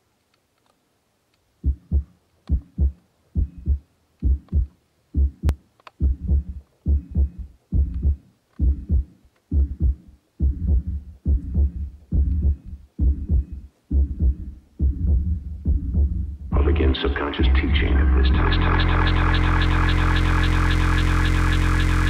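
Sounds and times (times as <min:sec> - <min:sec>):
heartbeat thumps: 0:01.6 - 0:16.7, 0:17.4 - 0:22.0.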